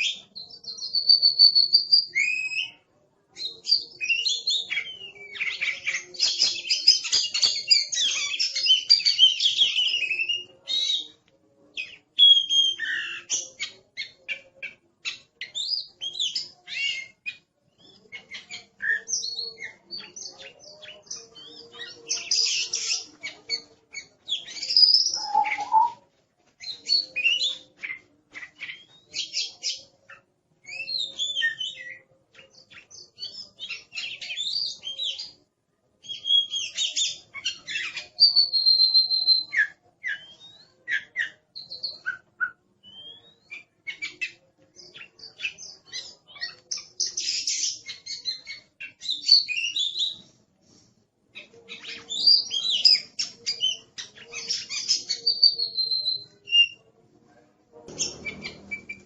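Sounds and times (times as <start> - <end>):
songbird singing chirps and whistles: 0.0 - 35.4, 36.0 - 50.4, 51.3 - 57.0, 57.9 - 59.0.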